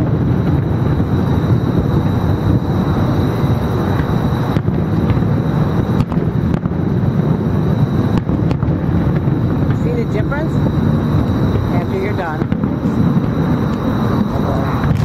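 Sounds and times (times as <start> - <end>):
faint fireworks bangs: 0.0 - 15.0
loud low rumble: 0.0 - 15.0.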